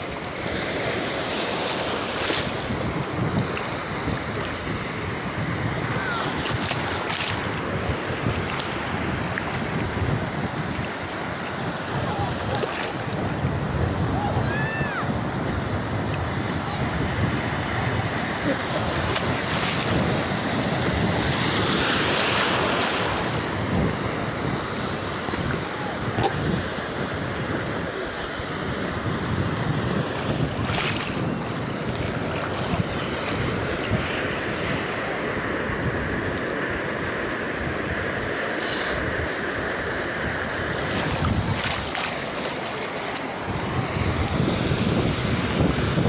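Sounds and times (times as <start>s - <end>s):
sea waves washing onto beach: 0.0s - 46.0s
wind buffeting microphone: 1.9s - 46.0s.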